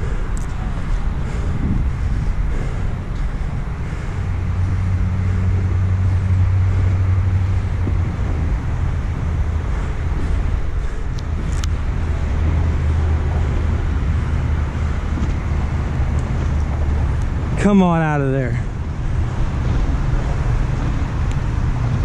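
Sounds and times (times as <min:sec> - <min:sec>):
road traffic drone: 0:00.0 - 0:22.0.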